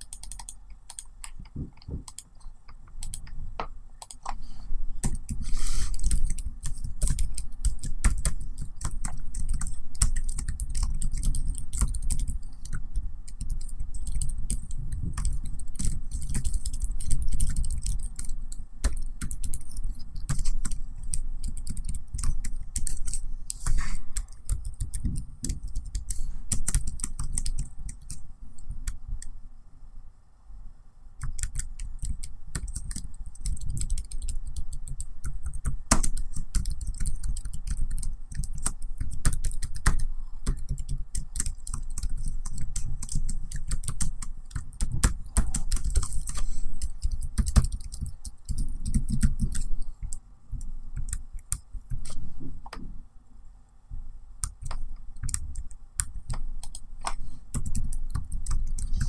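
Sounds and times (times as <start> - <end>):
typing on a laptop keyboard: 0.0 - 3.4, 4.0 - 4.4, 5.0 - 29.3, 31.2 - 52.2, 54.4 - 59.0.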